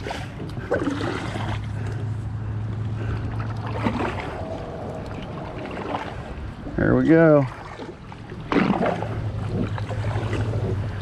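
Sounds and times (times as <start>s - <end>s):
paddle splashing in water: 0.0s - 2.2s, 2.9s - 11.0s
low hum: 0.0s - 11.0s.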